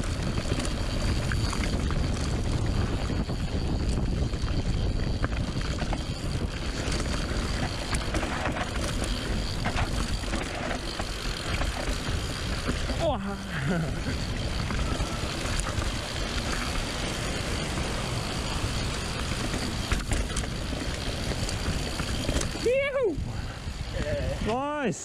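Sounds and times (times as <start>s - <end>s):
tyres rolling over dirt: 0.0s - 22.8s
wind on microphone: 0.0s - 24.6s
bike clicks and rattles: 0.0s - 24.8s.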